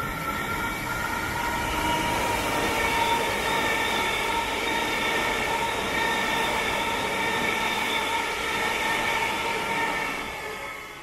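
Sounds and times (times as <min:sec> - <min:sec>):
high-pitched train whine: 0:00.0 - 0:11.0
wheels rushing on rail: 0:00.0 - 0:11.0.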